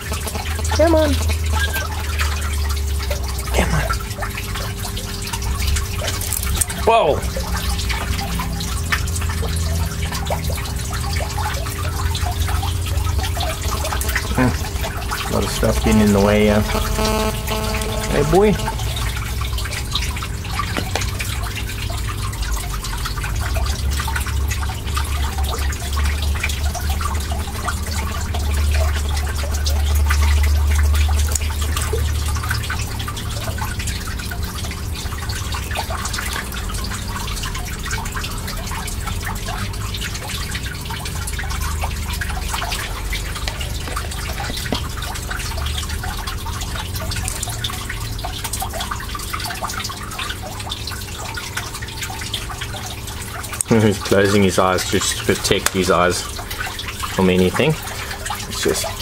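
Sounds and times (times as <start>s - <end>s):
low hum and rumble: 0.0s - 53.9s
water trickling and dripping: 0.0s - 59.0s.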